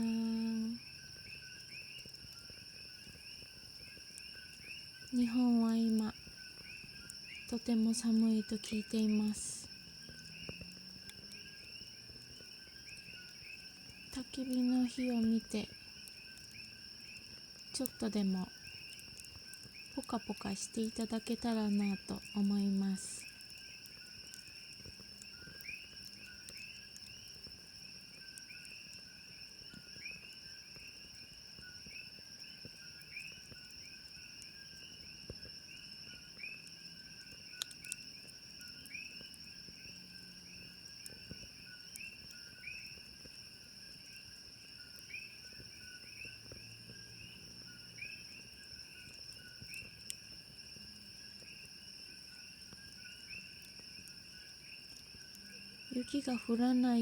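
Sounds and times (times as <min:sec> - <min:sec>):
campfire crackling pops: 0:00.0 - 0:57.0
crickets and insects trilling: 0:00.0 - 0:57.0.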